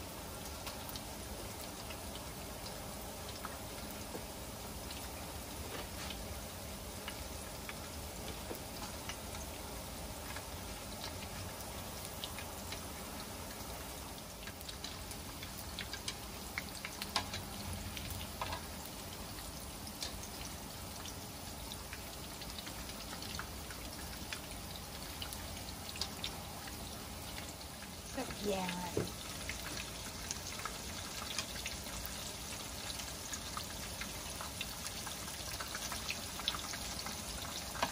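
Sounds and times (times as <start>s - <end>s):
deep-frying sizzle with pops: 0.0s - 37.9s.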